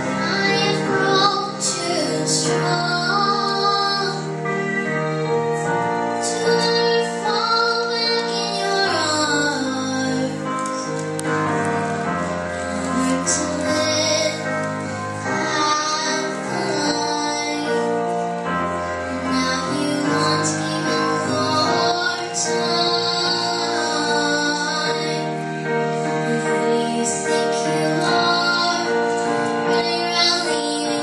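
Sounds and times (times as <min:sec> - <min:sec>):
girl singing pop ballad: 0:00.0 - 0:05.6, 0:06.2 - 0:11.0, 0:12.6 - 0:18.2, 0:19.0 - 0:25.5, 0:26.2 - 0:31.0
instrumental accompaniment: 0:00.0 - 0:31.0.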